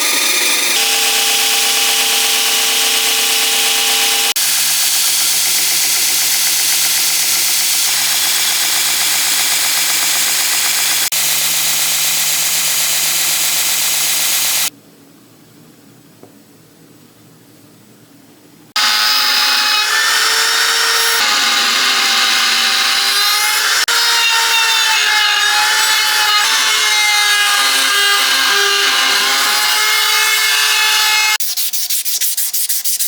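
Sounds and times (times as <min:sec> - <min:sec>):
workshop power tools running: 0:00.0 - 0:14.7, 0:18.8 - 0:31.4.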